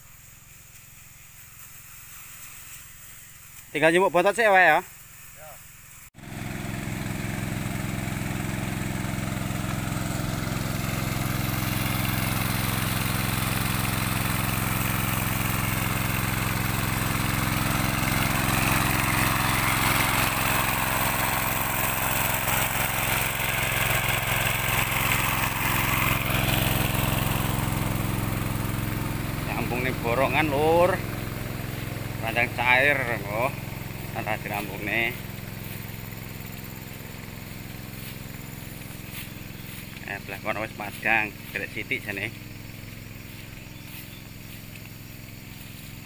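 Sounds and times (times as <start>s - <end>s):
spray pump hissing: 0.0s - 46.0s
small petrol engine running: 6.2s - 46.0s.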